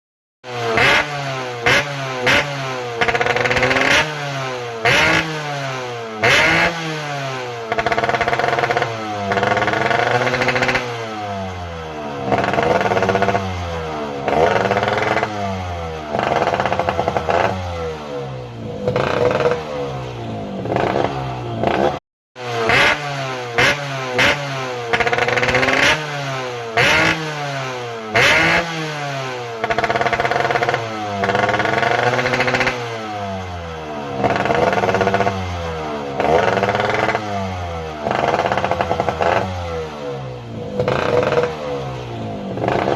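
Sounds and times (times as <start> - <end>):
motorcycle engine revving: 0.4 - 42.9.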